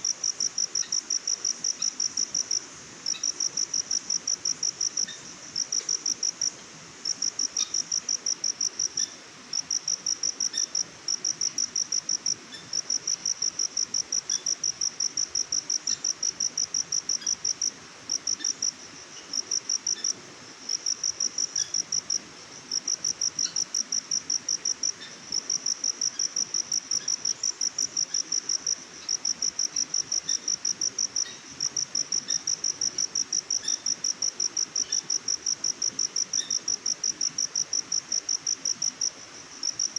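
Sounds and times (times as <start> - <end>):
faint steady hiss: 0.0 - 39.9
insect chirping: 0.0 - 39.9.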